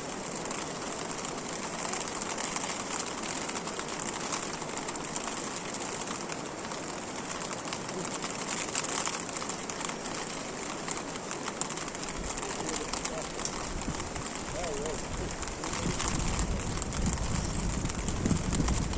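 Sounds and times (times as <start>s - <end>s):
rain falling steadily: 0.0s - 18.9s.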